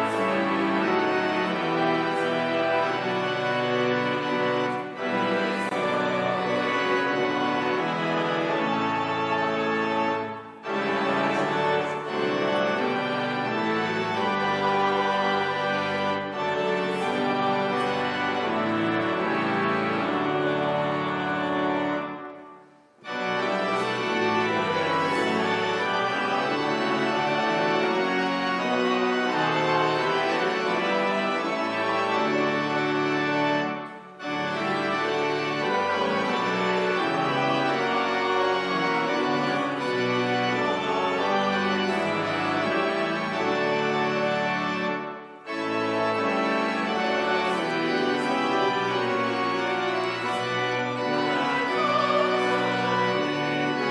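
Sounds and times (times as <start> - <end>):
organ chords: 0.0 - 53.9.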